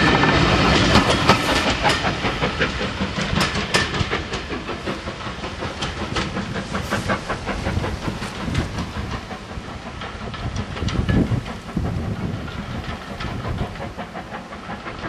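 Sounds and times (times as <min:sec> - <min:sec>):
steam train hiss and rumble: 0:00.0 - 0:15.0
train wheels clicking over rail joints: 0:00.0 - 0:15.0.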